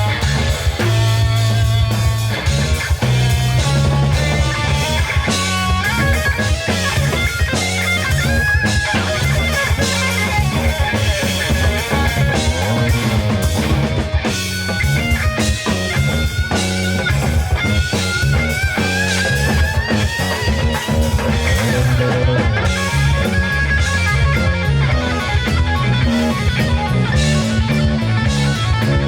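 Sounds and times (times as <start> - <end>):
bass guitar: 0.0 - 29.0
drum kit: 0.0 - 29.0
electric guitar melody: 0.0 - 29.0.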